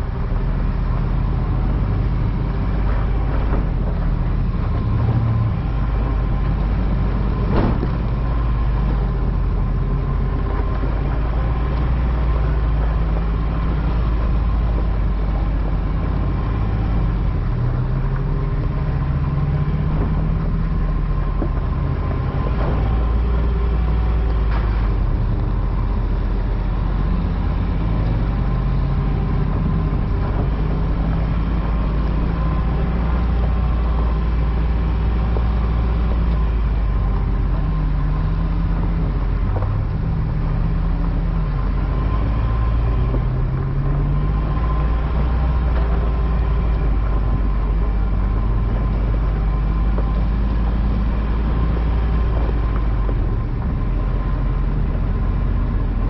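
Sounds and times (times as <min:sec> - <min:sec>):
truck engine revving at low speed: 0:00.0 - 0:56.0.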